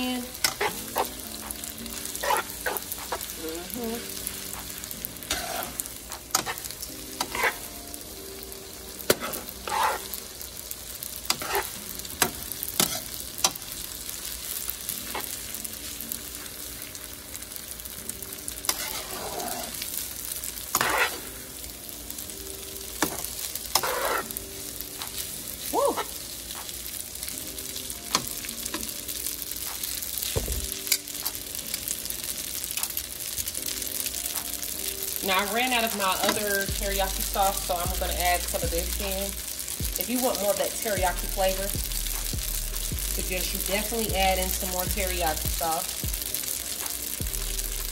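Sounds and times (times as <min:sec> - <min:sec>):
noodles sizzling in pan: 0:00.0 - 0:47.9.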